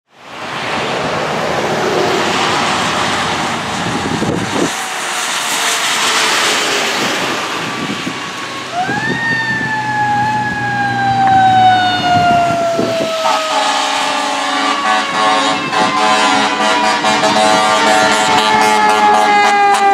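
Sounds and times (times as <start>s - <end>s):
traffic on a wet road: 0.1s - 19.9s
fire engine siren: 1.9s - 19.9s.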